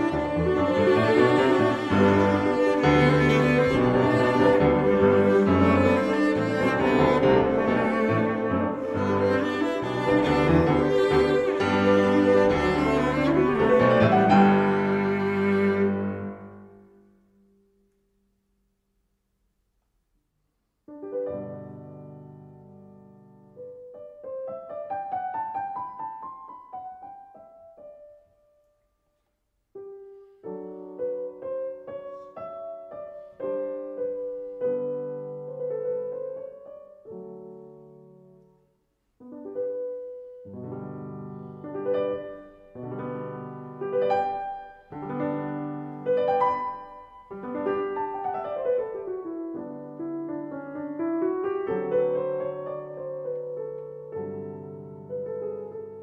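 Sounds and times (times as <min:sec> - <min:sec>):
slow piano music: 0:00.0 - 0:17.7, 0:20.9 - 0:29.0, 0:29.7 - 0:56.0.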